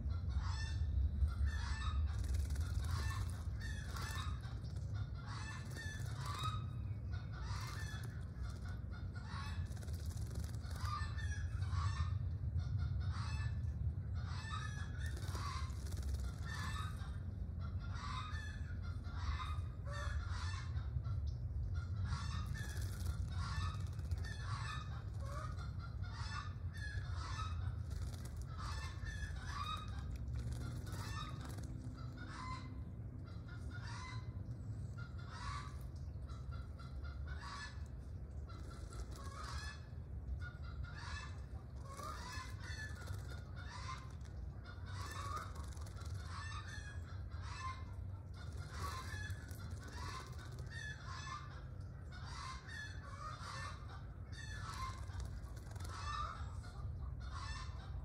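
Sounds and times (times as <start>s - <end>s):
birds calling: 0.0s - 58.0s
steady low rumble: 0.0s - 58.0s.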